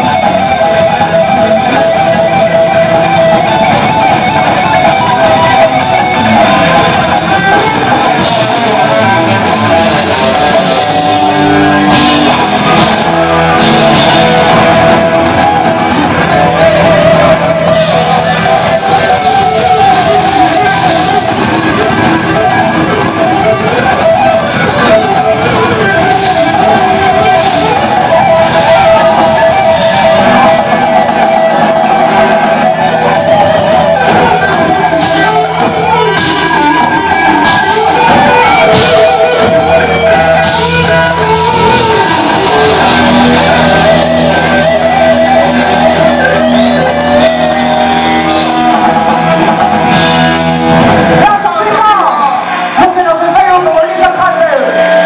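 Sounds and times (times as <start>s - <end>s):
heavy metal band playing: 0.0s - 55.0s.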